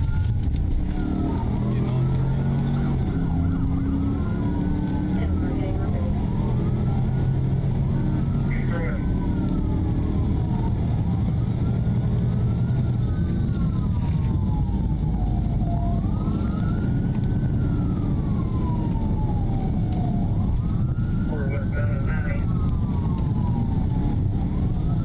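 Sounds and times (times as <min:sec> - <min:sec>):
car road rumble: 0:00.0 - 0:25.0
police siren wailing: 0:00.0 - 0:25.0.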